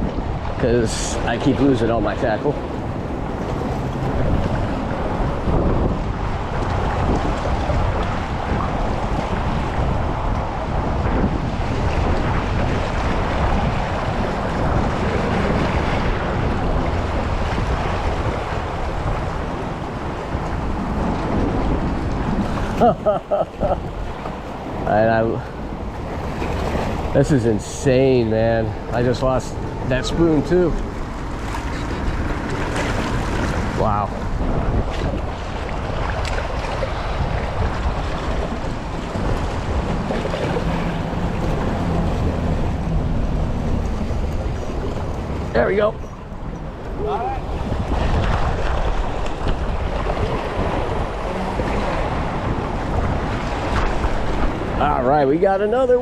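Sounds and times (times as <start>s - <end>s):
water washing: 0.0s - 56.0s
wind buffeting microphone: 0.0s - 56.0s.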